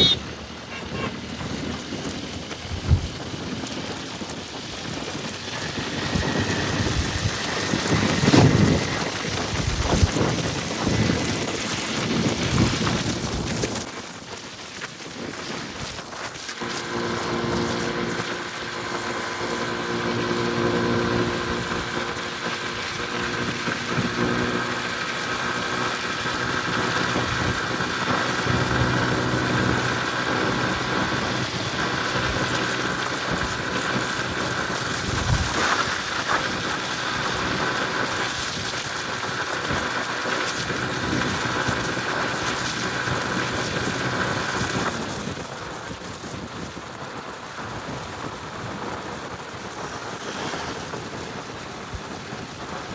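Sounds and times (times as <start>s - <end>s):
motorcycle engine running: 0.0s - 14.0s, 14.7s - 52.9s
road noise: 0.0s - 52.9s
wind noise: 0.0s - 52.9s.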